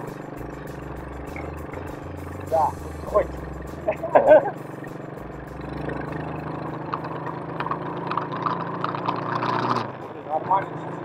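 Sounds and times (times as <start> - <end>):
quad bike engine under throttle: 0.0 - 11.0.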